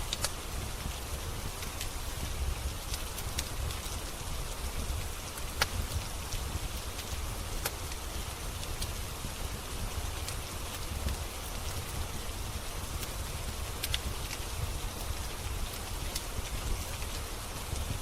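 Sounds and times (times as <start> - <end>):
steady rain hiss: 0.0 - 18.0
wood fire crackling and popping: 0.0 - 18.0.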